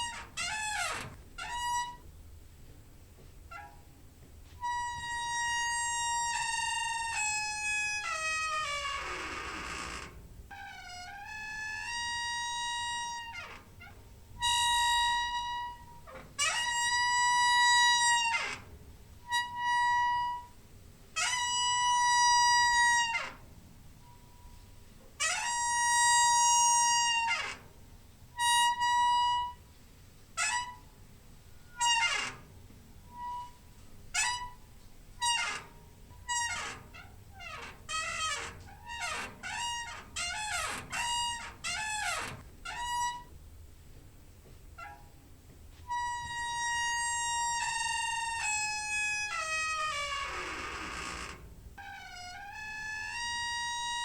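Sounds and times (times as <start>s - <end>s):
creaking door hinge squeaking: 0.0s - 2.2s, 3.2s - 20.6s, 21.2s - 29.7s, 30.3s - 43.5s, 44.7s - 45.2s, 45.8s - 54.0s.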